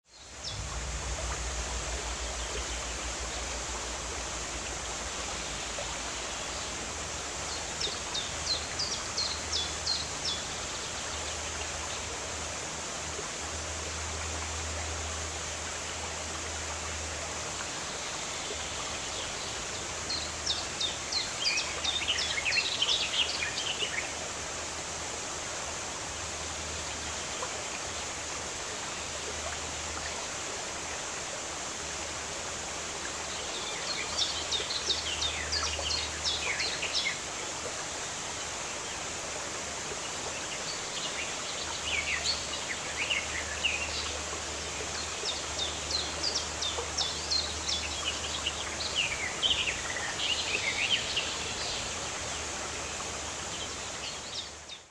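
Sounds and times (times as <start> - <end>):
waterfall rushing: 0.1 - 54.7.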